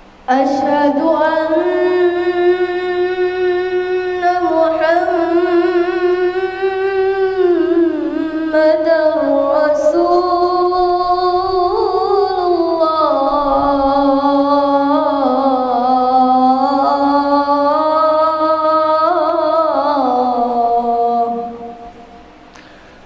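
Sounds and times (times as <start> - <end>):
child chanting call to prayer: 0.3 - 22.2.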